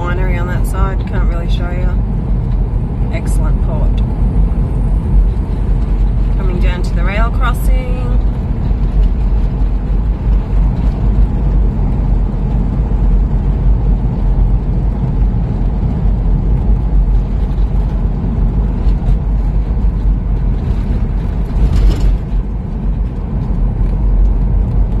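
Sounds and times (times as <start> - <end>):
car interior engine and tyre rumble: 0.0 - 25.0.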